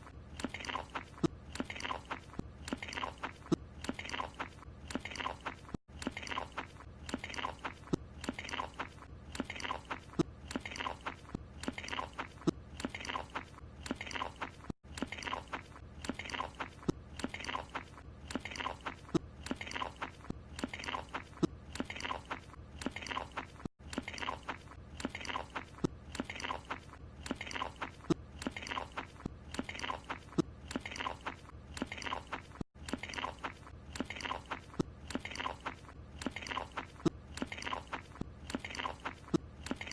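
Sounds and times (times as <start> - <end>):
cartoon character munching: 0.0 - 39.9.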